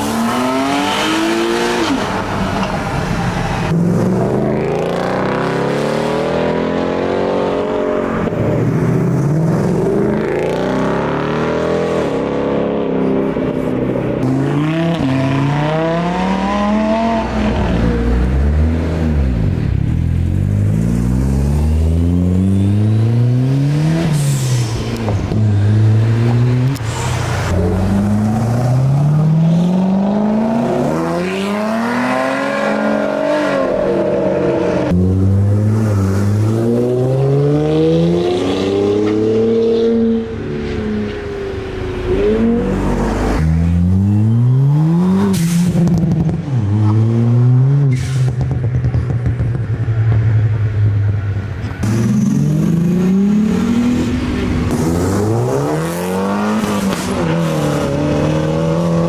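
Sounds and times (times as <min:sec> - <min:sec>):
sports cars accelerating hard: 0:00.0 - 0:13.6, 0:14.2 - 0:41.0, 0:51.8 - 0:59.0.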